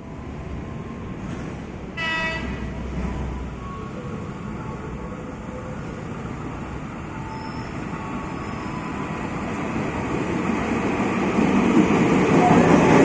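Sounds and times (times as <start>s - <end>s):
train approaching rumble: 0.0s - 13.0s.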